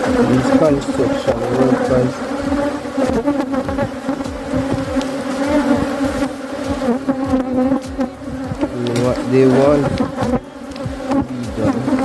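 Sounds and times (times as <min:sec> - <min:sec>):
single bees passing close: 0:00.0 - 0:12.0
swarm of bees buzzing: 0:00.0 - 0:12.0.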